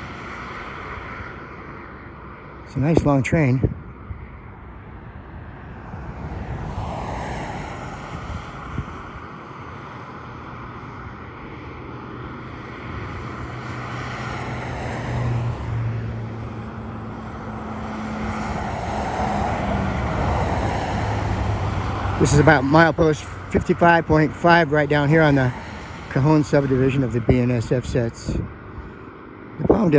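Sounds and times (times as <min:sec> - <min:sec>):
diesel locomotive engine drone: 0:00.0 - 0:29.9.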